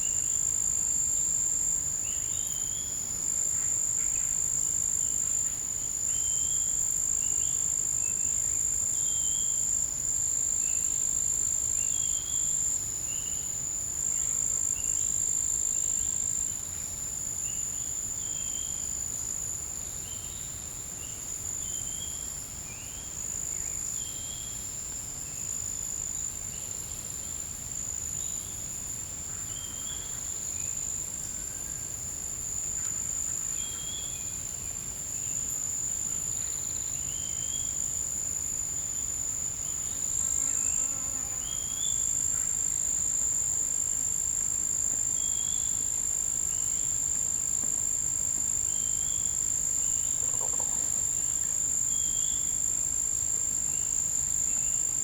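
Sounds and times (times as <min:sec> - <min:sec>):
insects droning high-pitched: 0:00.0 - 0:55.0.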